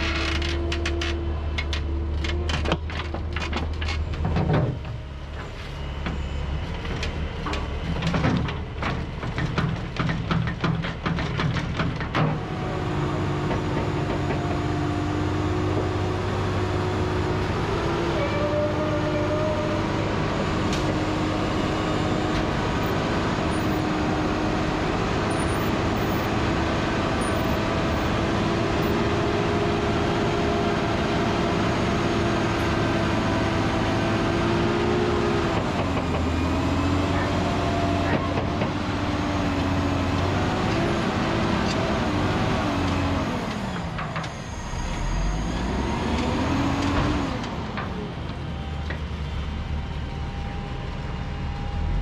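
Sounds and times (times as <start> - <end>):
diesel engine running under load: 0.0 - 52.0.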